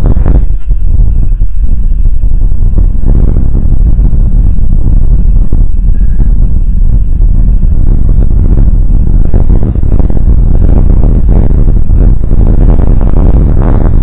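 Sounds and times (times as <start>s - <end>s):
loud low rumble: 0.0s - 14.0s
thin high whine: 0.0s - 14.0s.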